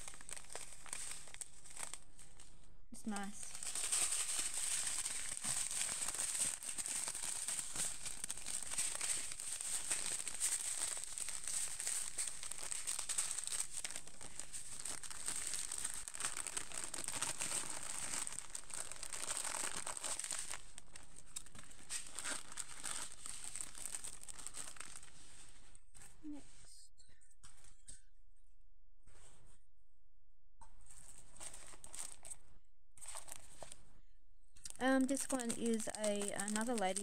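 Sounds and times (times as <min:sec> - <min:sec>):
plastic bags crinkling: 0:00.0 - 0:25.4, 0:30.8 - 0:32.4, 0:33.0 - 0:33.8, 0:34.6 - 0:37.0.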